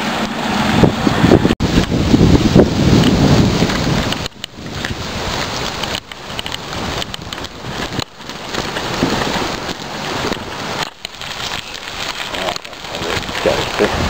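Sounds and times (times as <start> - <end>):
bicycle tyres rolling: 0.0 - 14.0
wind rushing over microphone: 0.0 - 14.0.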